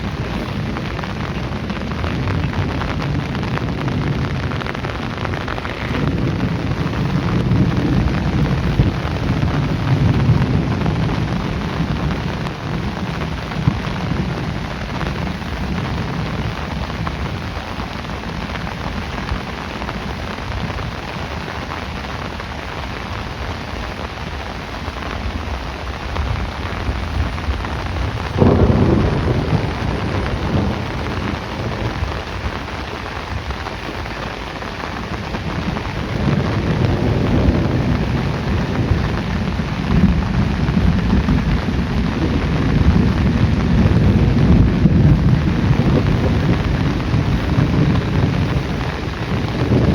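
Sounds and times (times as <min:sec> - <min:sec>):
heavy rain falling: 0:00.0 - 0:49.9
thunder rumbling: 0:00.0 - 0:49.9.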